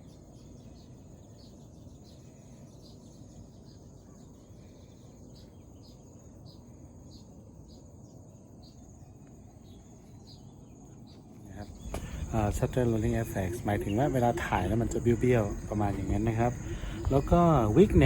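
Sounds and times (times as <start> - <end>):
insect trilling: 0.0 - 18.0.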